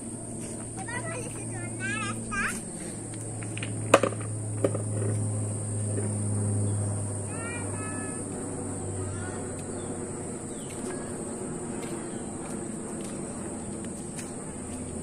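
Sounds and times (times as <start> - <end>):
high insect drone: 0.0 - 15.0
low hum: 0.0 - 15.0.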